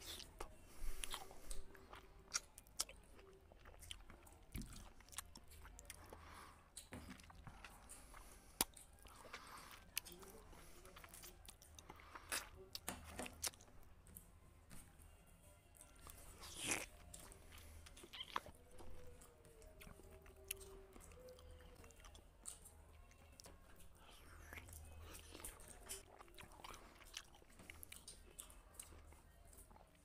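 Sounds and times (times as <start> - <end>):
man chewing with crunches: 0.0 - 14.3, 15.7 - 30.0.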